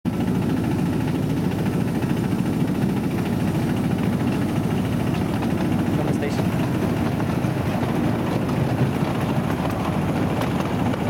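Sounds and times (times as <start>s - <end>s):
diesel engine throbbing: 0.1s - 11.0s.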